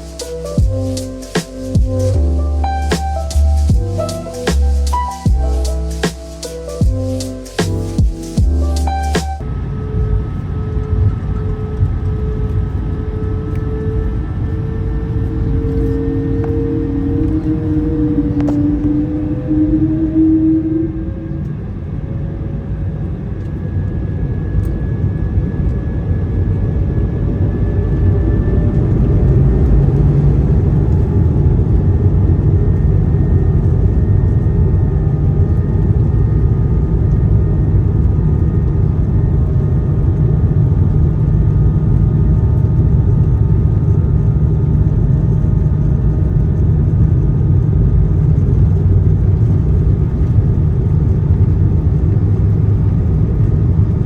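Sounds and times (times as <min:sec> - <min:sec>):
jet engine roar: 0:00.0 - 0:54.0
jet engine whine: 0:00.0 - 0:54.0.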